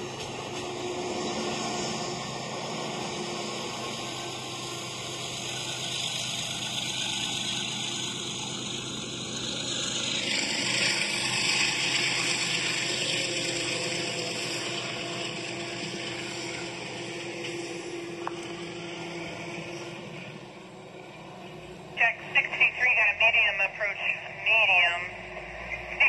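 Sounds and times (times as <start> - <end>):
train running: 0.0 - 26.0.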